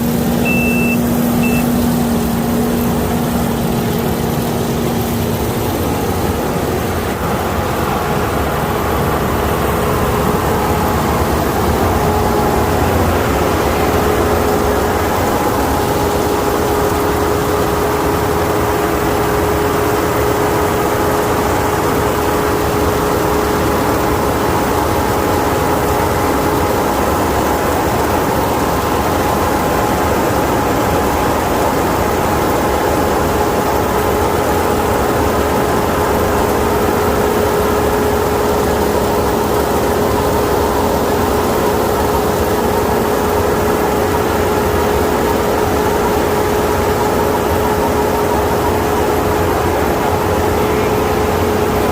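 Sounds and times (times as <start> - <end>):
combine harvester running: 0.0 - 51.9
machinery whine: 0.0 - 51.9.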